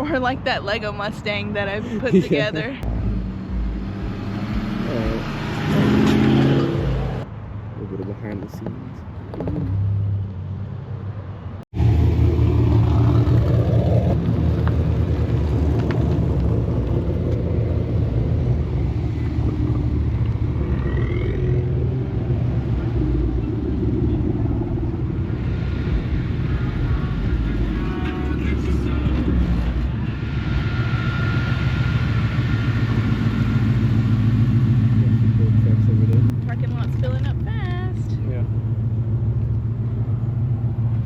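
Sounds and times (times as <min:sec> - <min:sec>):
car engine running: 0:01.3 - 0:07.2, 0:11.8 - 0:41.0.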